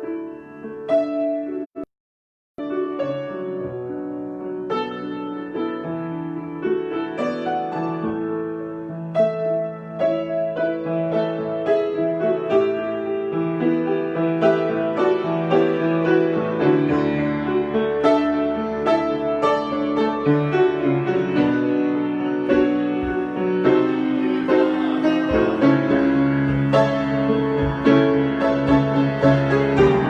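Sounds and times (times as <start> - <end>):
solo piano: 0.0 - 1.9, 2.6 - 30.0.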